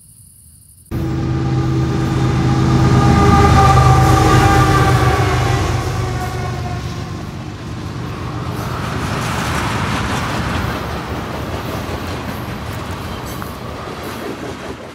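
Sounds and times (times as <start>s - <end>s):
rushing hiss of passing train: 0.9s - 14.9s
train wheels rumbling on rails: 0.9s - 14.9s.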